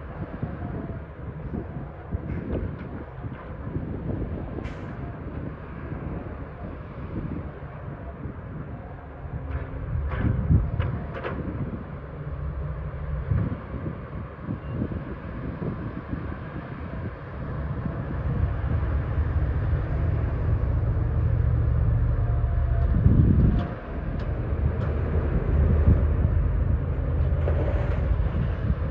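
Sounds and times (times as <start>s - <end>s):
heavy diesel engine droning: 0.1s - 28.9s.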